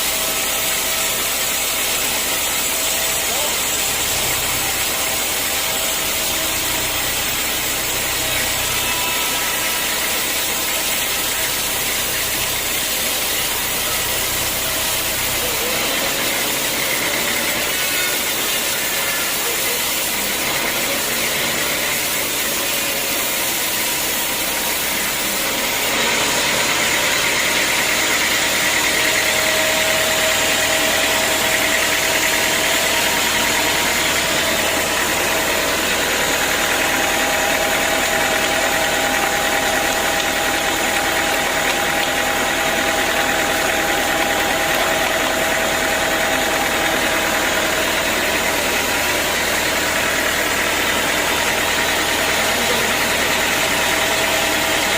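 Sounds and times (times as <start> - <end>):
sawmill saw cutting log: 0.0 - 54.9.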